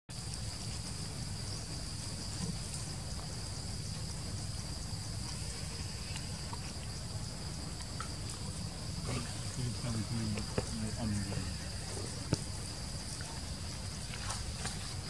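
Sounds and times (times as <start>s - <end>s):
insects chirring: 0.1s - 15.0s
low rumbling noise: 0.8s - 15.0s.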